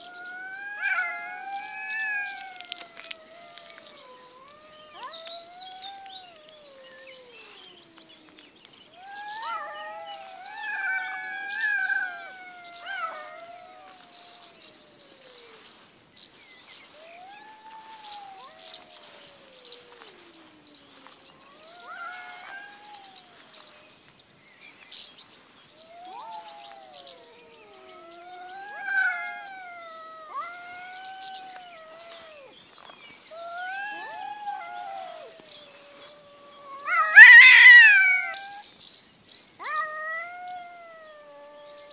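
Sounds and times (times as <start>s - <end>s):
cats yowling: 0.0s - 15.9s, 16.8s - 24.0s, 25.8s - 38.7s, 39.6s - 41.9s.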